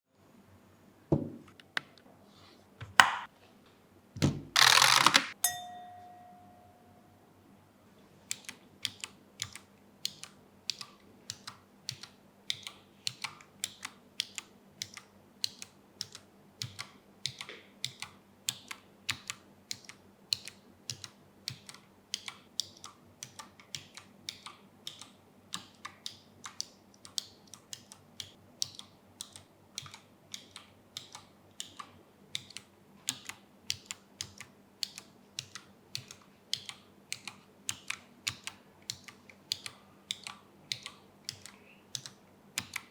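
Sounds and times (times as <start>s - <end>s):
mechanical keyboard typing: 4.6s - 5.4s, 8.3s - 42.9s.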